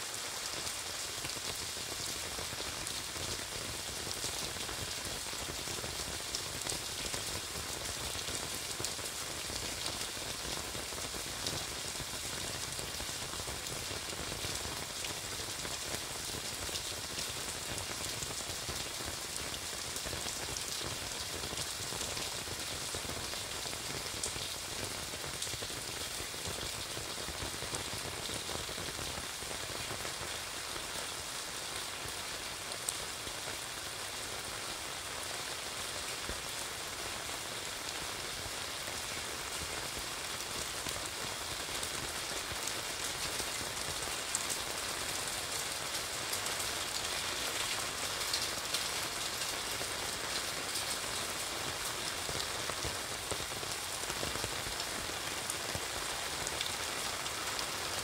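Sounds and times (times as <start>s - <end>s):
heavy rain on pavement: 0.0s - 58.0s
rain on umbrella: 0.0s - 58.0s.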